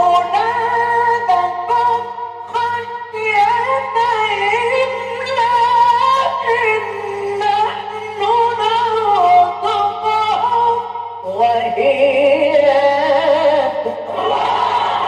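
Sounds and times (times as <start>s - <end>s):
man reciting melodically: 0.0s - 13.8s
low recording hum: 0.0s - 15.0s.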